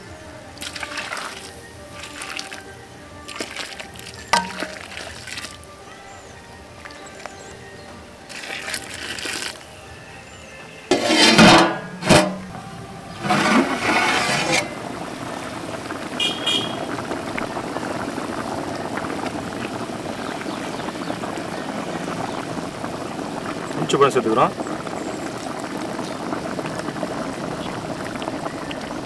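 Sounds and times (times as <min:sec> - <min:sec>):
water pouring into a metal pot: 0:00.0 - 0:07.5, 0:08.2 - 0:09.7, 0:10.9 - 0:29.0
curry boiling in a pot: 0:00.0 - 0:11.5, 0:12.4 - 0:29.0.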